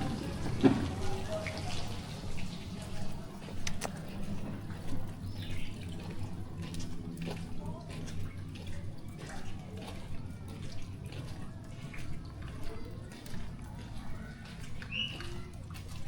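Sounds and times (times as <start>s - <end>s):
rain dripping and splashing: 0.0s - 16.0s
trickling water: 0.0s - 16.0s.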